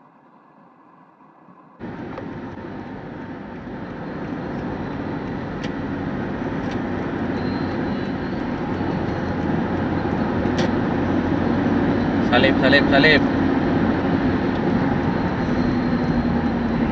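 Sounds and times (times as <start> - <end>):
car road and engine noise: 1.8 - 16.9.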